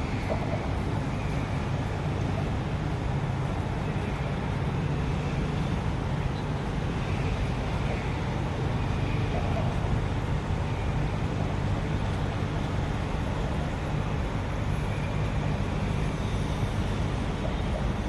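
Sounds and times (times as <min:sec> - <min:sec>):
engine humming steadily: 0:00.0 - 0:18.0.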